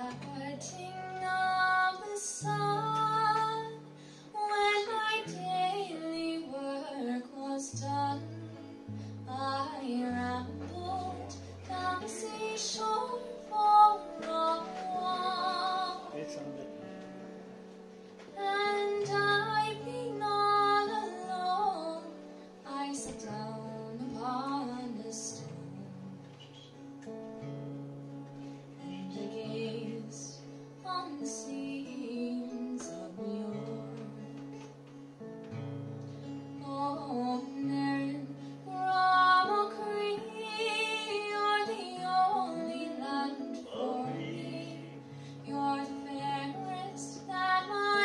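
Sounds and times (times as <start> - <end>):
woman singing: 0.0 - 16.2, 18.3 - 26.5, 28.8 - 34.7, 36.5 - 48.0
acoustic guitar strumming: 0.0 - 48.0.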